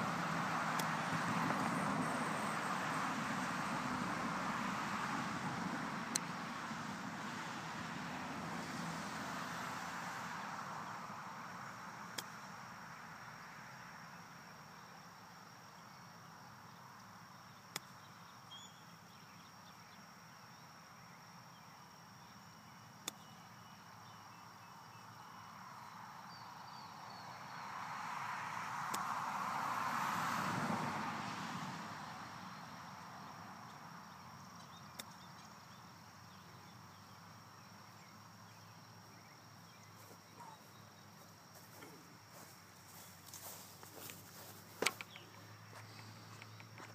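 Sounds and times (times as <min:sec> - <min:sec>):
distant traffic noise: 0:00.0 - 0:46.9.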